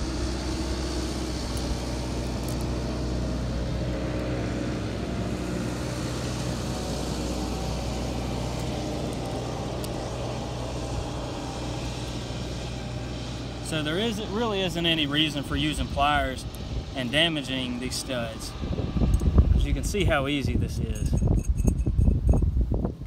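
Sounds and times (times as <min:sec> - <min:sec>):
motor humming: 0:00.0 - 0:19.9.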